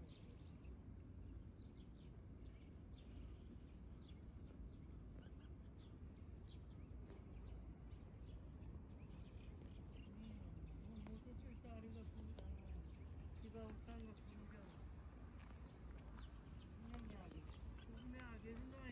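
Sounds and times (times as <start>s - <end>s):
low steady background rumble: 0.0s - 18.9s
small birds chirping: 0.0s - 18.9s.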